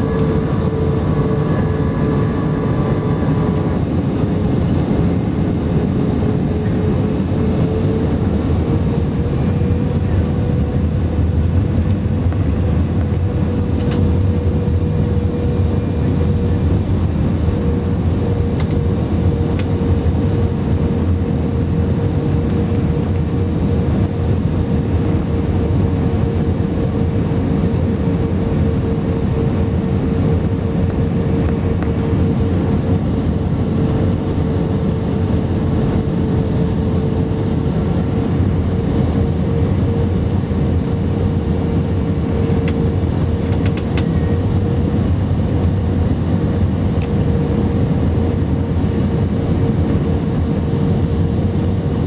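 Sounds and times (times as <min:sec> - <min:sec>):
airliner cabin engine rumble: 0:00.0 - 0:52.0.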